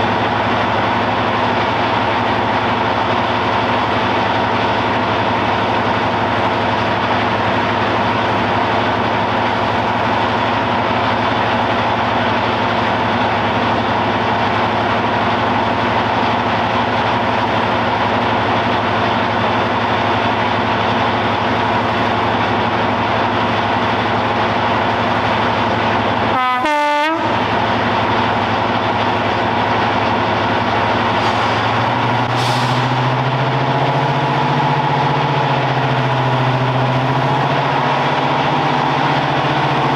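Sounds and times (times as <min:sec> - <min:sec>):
diesel locomotive idling: 0:00.0 - 0:39.9.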